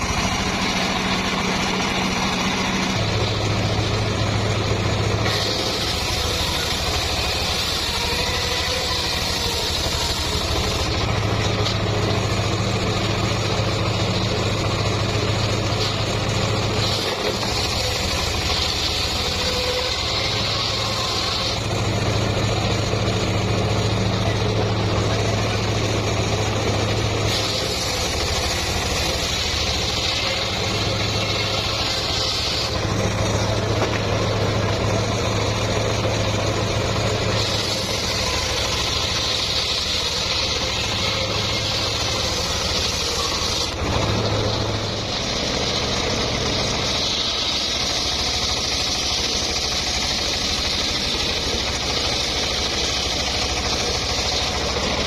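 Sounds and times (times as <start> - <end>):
circular sawmill engine running: 0.0 - 55.0
saw blade cutting log: 0.0 - 55.0.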